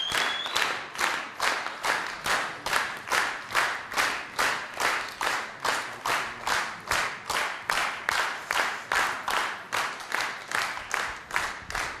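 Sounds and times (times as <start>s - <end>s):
audience clapping in unison: 0.0s - 12.0s.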